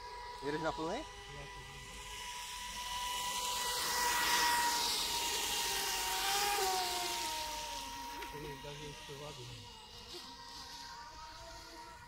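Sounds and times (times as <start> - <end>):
speedboat motor whine: 0.0 - 12.0.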